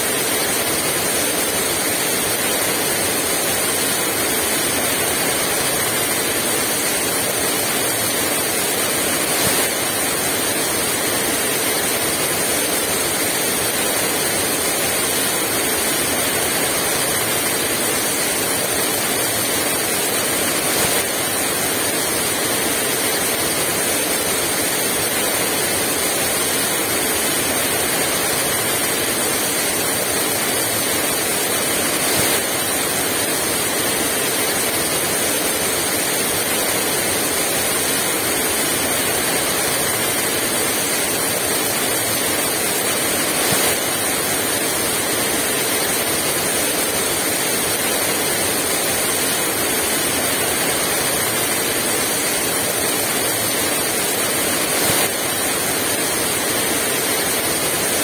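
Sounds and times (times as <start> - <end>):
heavy rain downpour: 0.2 - 58.0.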